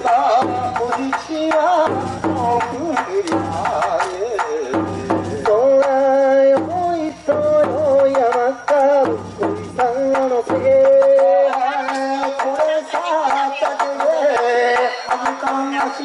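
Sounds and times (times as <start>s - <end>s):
barrel drum beats: 0.0s - 16.0s
person singing wavering melody: 0.0s - 16.0s.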